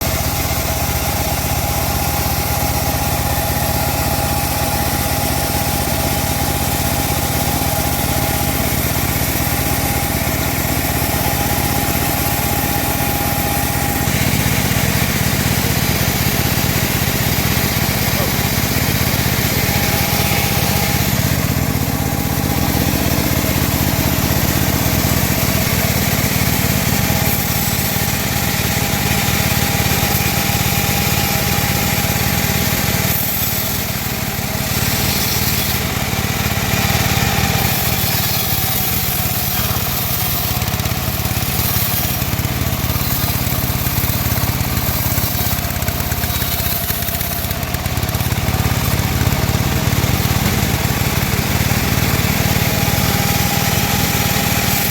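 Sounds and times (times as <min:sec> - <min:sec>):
band saw cutting wood: 0:00.0 - 0:54.9.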